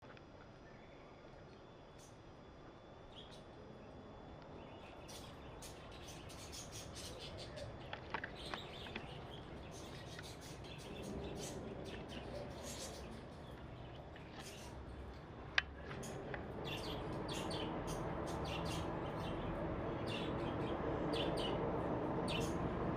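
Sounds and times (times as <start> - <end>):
low steady background noise: 0.0 - 22.9
small birds chirping: 3.0 - 22.7.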